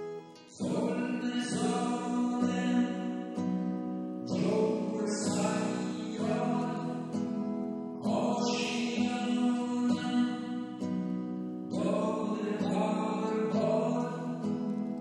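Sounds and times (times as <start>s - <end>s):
person singing: 0.0s - 3.6s, 4.2s - 7.4s, 8.0s - 15.0s.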